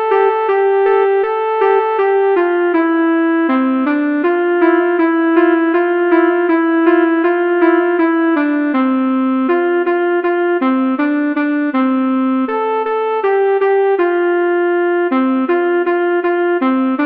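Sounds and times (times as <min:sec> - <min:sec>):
melodica playing a melody: 0:00.0 - 0:17.0.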